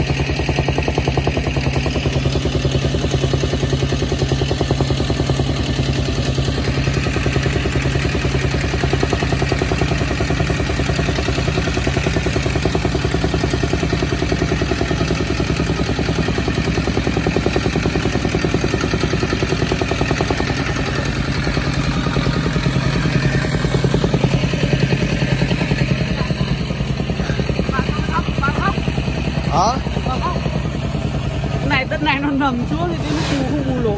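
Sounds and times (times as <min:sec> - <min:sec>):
tamping rammer pounding soil: 0:00.0 - 0:33.9.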